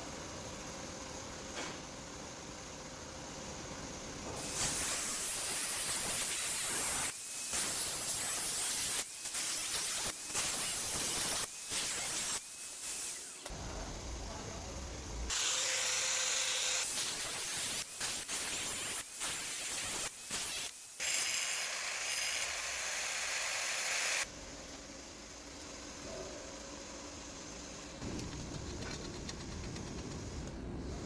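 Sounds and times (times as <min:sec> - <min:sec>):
steady hissing noise: 0:00.0 - 0:15.7, 0:16.8 - 0:31.0.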